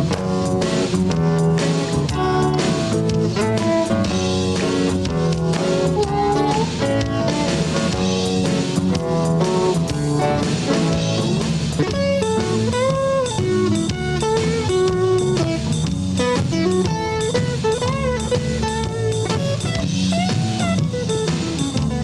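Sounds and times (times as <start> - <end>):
drum kit beat: 0.0 - 22.0
guitar playing: 0.0 - 22.0.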